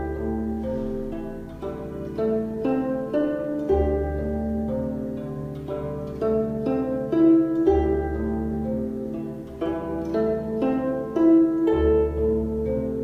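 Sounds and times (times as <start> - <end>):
plucked melody: 0.0 - 13.0.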